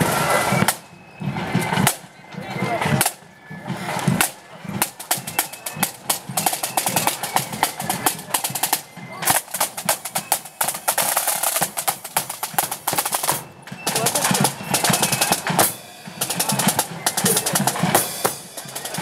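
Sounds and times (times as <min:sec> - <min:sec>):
snare drums playing rapid beat: 0:00.0 - 0:19.0.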